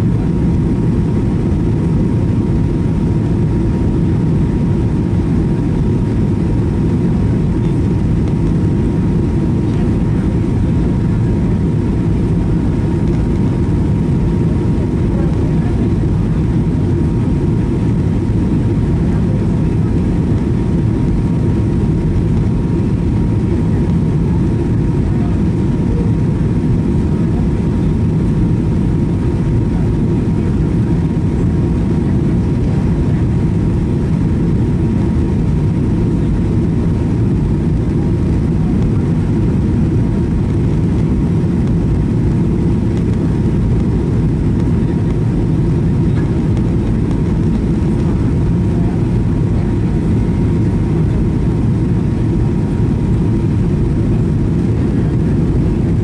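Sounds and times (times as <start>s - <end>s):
airplane cabin engine rumble: 0.0s - 56.0s
thin steady whine: 0.0s - 56.0s.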